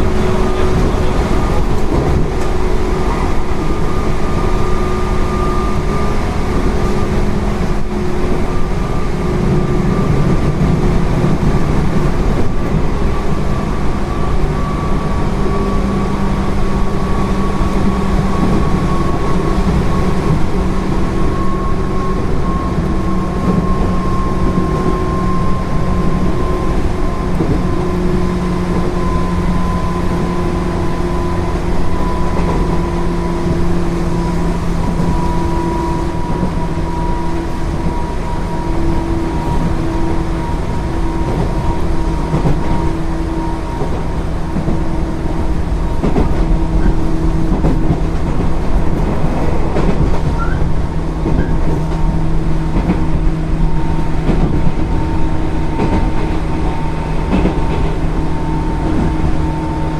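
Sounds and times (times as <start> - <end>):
train motor hum: 0.0 - 59.9
train wheels rumbling on rail: 0.0 - 59.9.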